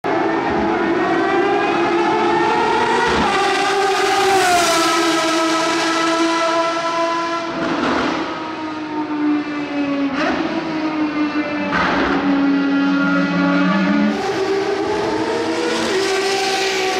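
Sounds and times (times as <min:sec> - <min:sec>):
car engine at high revs: 0:00.0 - 0:16.9.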